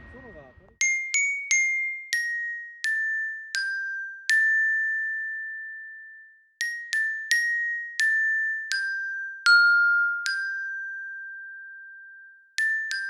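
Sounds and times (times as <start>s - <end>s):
bell-like music-box melody: 0.8s - 13.0s.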